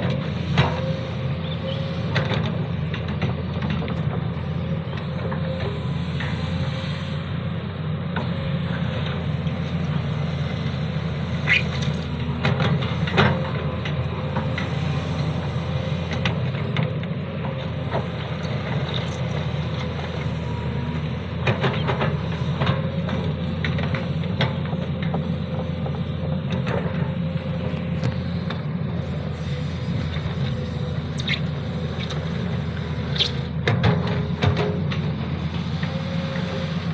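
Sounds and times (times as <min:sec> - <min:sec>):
excavator engine running: 0:00.0 - 0:36.9
hydraulic whine: 0:00.0 - 0:36.9.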